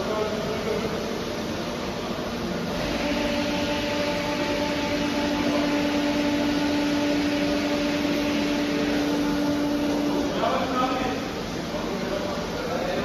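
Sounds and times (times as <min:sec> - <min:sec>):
fan motor whirring: 0:00.0 - 0:13.0
steady hum: 0:00.0 - 0:13.0.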